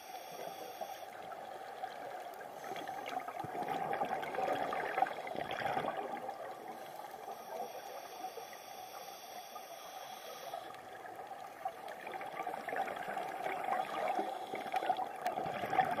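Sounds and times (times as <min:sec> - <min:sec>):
underwater gurgling and bubbling: 0:00.0 - 0:09.1, 0:09.9 - 0:16.0.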